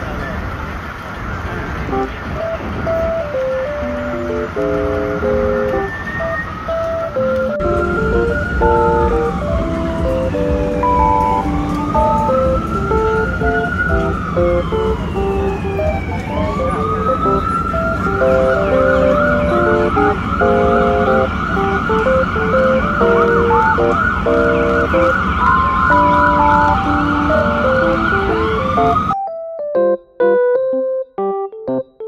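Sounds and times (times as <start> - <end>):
low rumble of city traffic: 0.0 - 29.2
emergency vehicle siren: 1.9 - 29.2
keyboard melody background music: 1.9 - 32.0.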